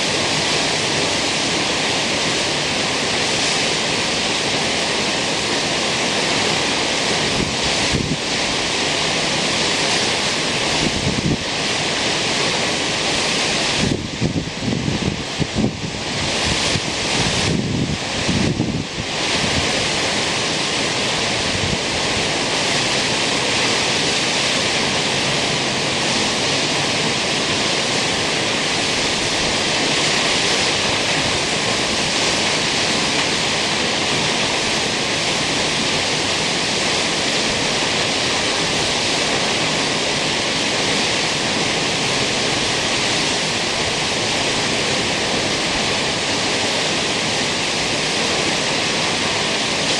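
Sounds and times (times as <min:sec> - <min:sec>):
waterfall rushing: 0:00.0 - 0:49.9
wind gusts on microphone: 0:00.0 - 0:49.9.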